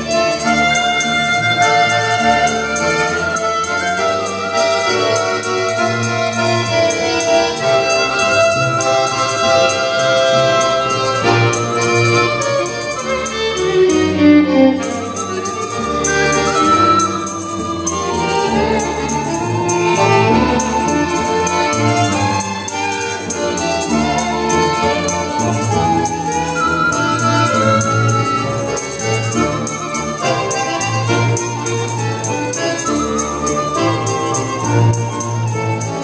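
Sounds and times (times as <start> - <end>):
folk ensemble bowed strings: 0.0 - 36.0.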